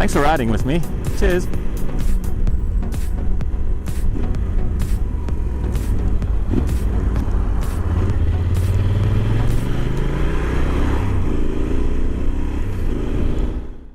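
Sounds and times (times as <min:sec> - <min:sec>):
motorcycle engine accelerating: 0:00.0 - 0:13.9.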